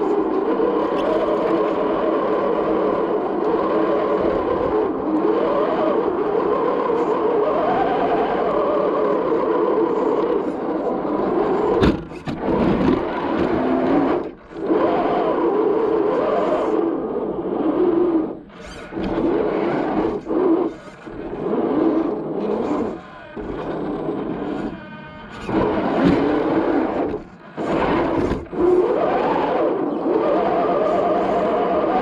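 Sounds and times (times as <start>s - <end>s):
rc car motor whining: 0.0s - 32.0s.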